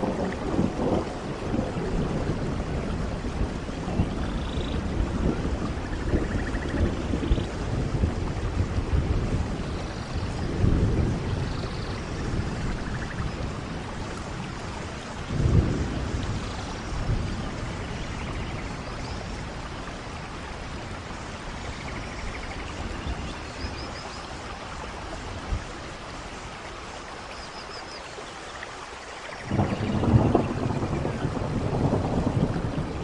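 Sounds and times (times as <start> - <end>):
distant thunder rumbling: 0.0 - 24.0, 29.4 - 33.0
steady rain falling: 0.0 - 33.0.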